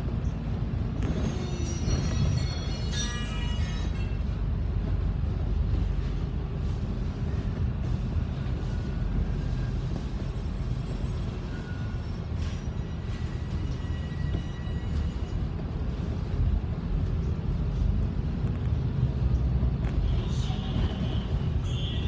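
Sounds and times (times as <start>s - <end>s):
bus diesel engine rumble: 0.0s - 22.0s.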